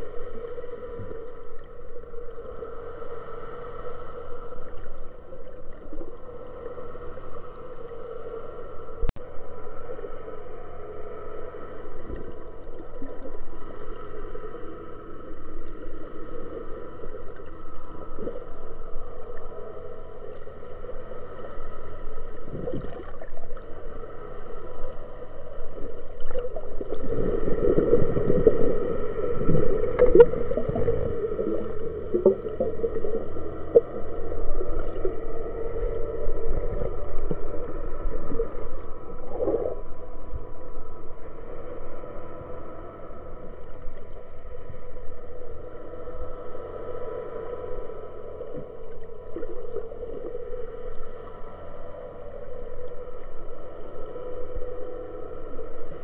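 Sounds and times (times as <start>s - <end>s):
churning water background: 0.0s - 56.0s
underwater machine hum: 0.0s - 56.0s.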